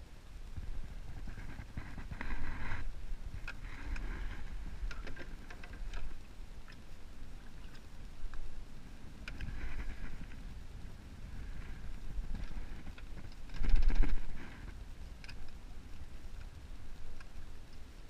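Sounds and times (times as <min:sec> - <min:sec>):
wind noise on microphone: 0:00.0 - 0:18.0
rustling: 0:00.5 - 0:18.0.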